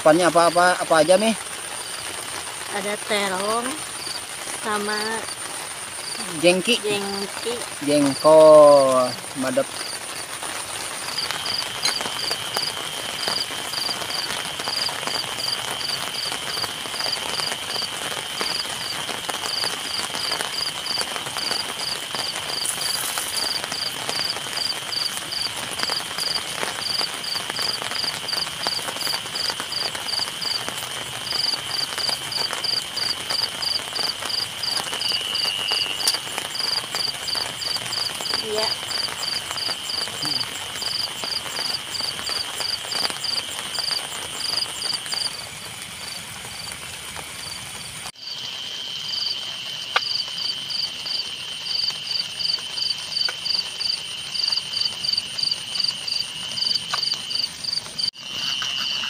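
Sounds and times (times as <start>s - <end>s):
insect trilling: 0.0s - 46.7s, 47.4s - 59.0s
insect chirping: 0.0s - 59.0s.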